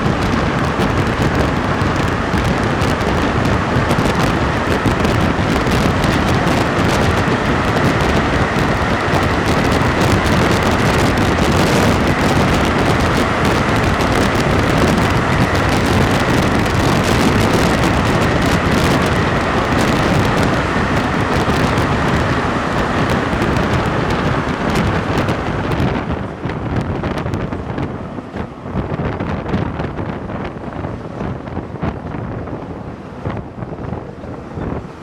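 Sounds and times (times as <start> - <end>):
train rushing through tunnel: 0.0 - 35.0.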